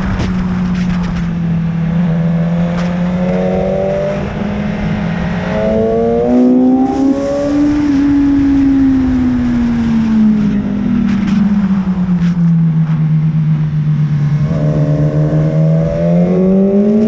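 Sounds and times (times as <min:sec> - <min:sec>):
motorcycle engine running hard: 0:00.0 - 0:17.0
wind rush: 0:00.0 - 0:17.0.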